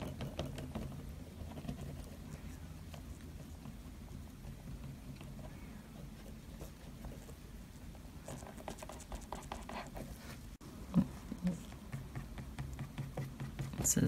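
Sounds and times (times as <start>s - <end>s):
small tools tapping and scratching: 0.0s - 10.1s, 11.4s - 14.0s
low steady hum: 0.0s - 14.0s.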